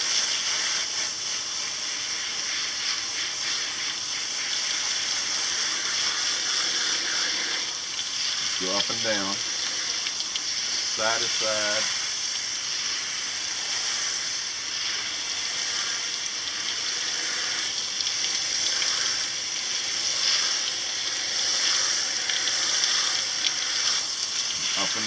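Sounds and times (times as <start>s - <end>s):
hose spraying water on filter: 0.0s - 25.0s.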